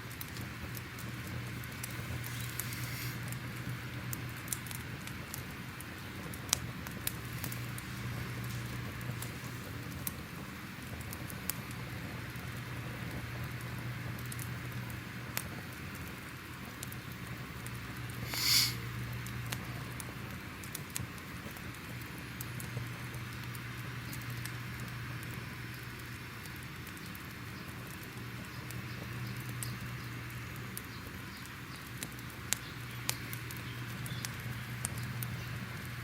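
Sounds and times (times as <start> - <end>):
fire crackling and popping: 0.0 - 36.0
soft hiss of fire: 0.0 - 36.0.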